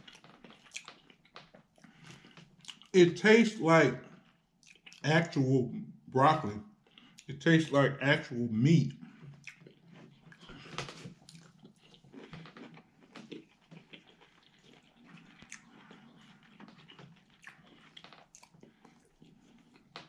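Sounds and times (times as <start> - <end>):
person chewing food: 0.0 - 5.1, 6.7 - 7.3, 9.0 - 20.0.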